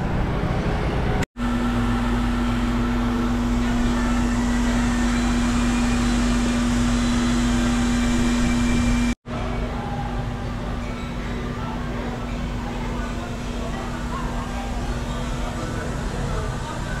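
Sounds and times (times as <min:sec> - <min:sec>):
electric fan humming: 0:01.4 - 0:17.0.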